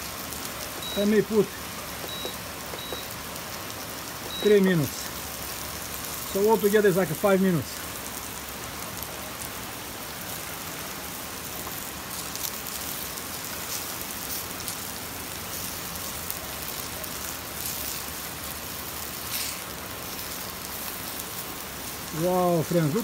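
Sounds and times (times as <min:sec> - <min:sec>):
vegetable slices frying in oil: 0:00.0 - 0:23.0.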